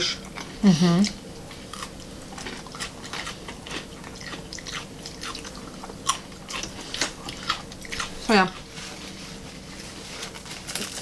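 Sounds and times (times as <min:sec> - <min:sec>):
faint steady hum: 0:00.0 - 0:11.0
chewing crunchy bread: 0:00.1 - 0:11.0.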